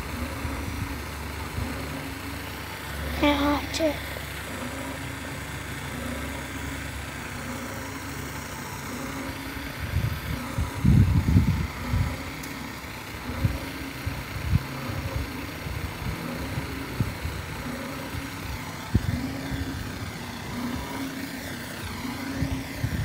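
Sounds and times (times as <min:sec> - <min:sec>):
steady motor hum: 0:00.0 - 0:23.0.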